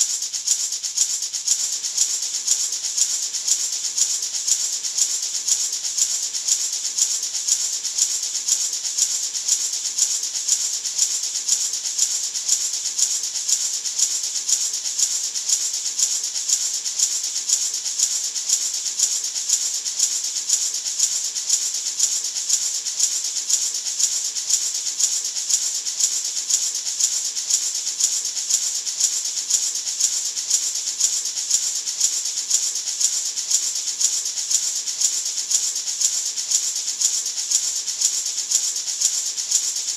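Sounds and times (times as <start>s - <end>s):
maraca shaking: 0.0s - 39.9s.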